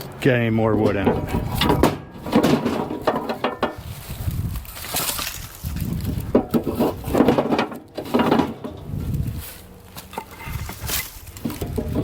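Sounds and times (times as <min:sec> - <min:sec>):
firewood clattering into metal box: 0:00.7 - 0:04.0, 0:04.7 - 0:12.0.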